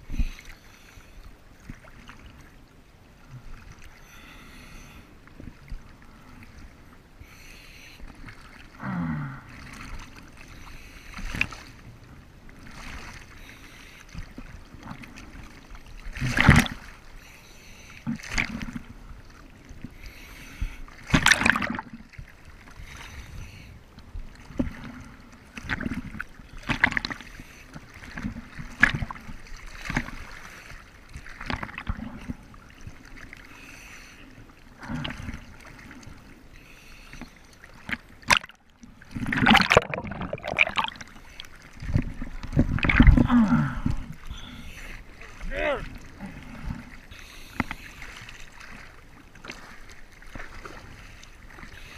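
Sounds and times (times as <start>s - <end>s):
sea water splashing and sloshing: 0.0s - 51.9s.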